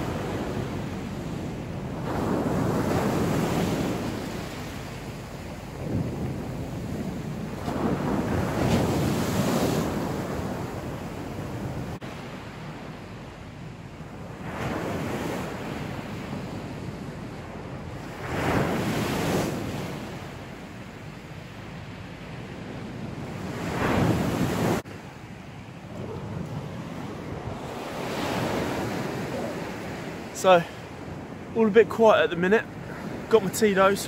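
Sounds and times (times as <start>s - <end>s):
waves washing in: 0.0s - 34.0s.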